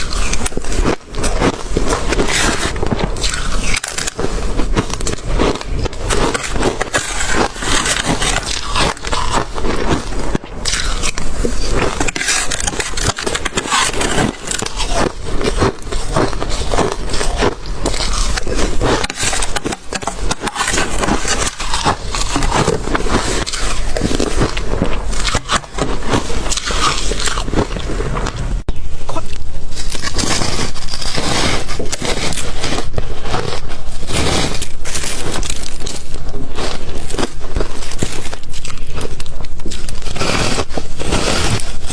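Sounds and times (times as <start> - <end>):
chewing and crunching ice: 0.0 - 41.9.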